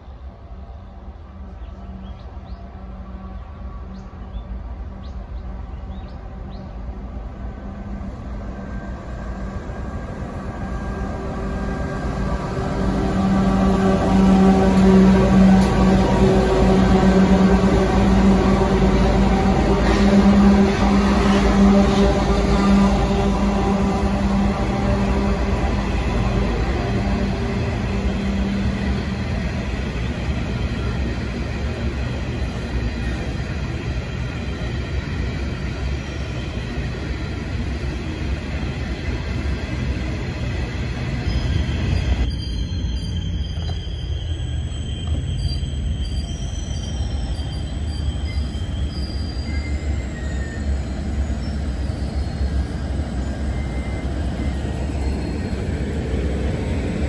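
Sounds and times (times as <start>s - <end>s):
diesel locomotive engine hum: 0.0s - 57.0s
train wheels rumbling on rails: 0.0s - 57.0s.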